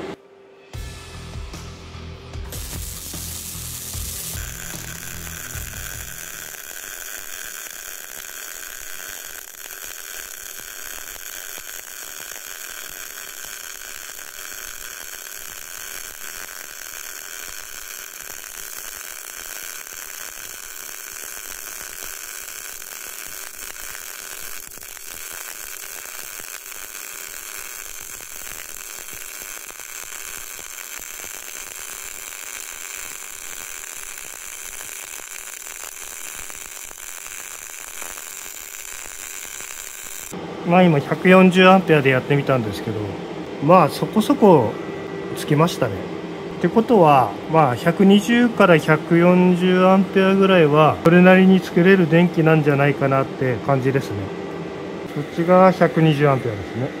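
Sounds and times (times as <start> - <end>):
welding arc crackling sizzle: 2.3 - 44.7, 45.3 - 57.0.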